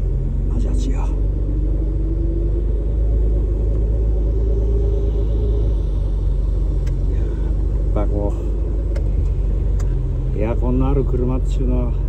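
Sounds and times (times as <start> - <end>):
car engine and road rumble: 0.0 - 12.0
faint rising whine: 0.0 - 12.0.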